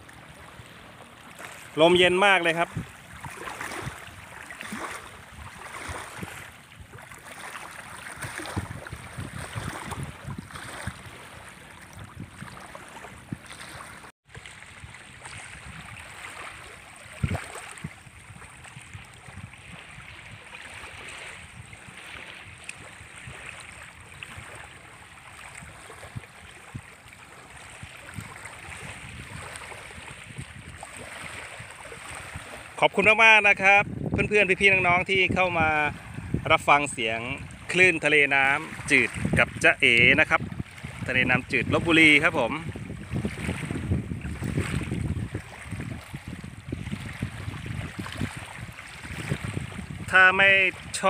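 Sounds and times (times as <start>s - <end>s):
waves lapping on shore: 0.0s - 51.0s
wind on microphone: 1.4s - 51.0s.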